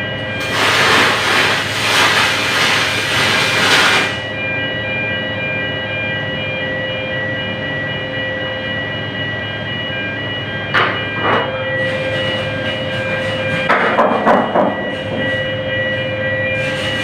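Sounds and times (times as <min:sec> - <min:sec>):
mechanical hum with whining tones: 0:00.0 - 0:17.0.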